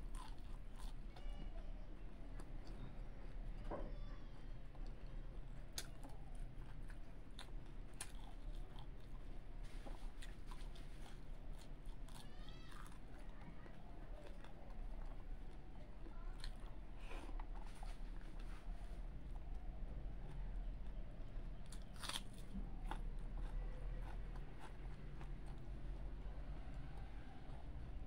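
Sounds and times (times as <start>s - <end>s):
person chewing food: 0.0s - 1.4s, 4.4s - 27.9s.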